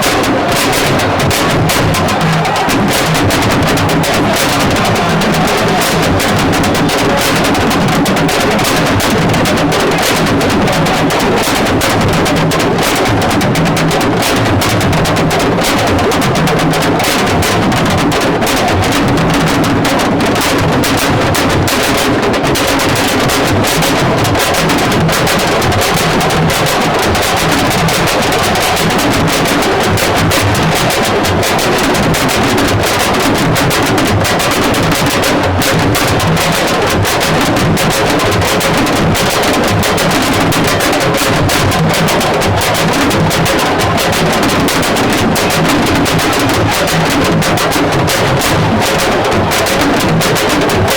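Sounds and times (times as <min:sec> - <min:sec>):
music with fast dense drumming: 0:00.0 - 0:50.9.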